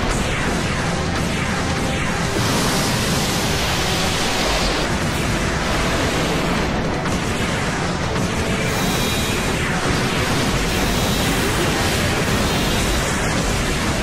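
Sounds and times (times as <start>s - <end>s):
beam blast and explosions: 0.0s - 14.0s.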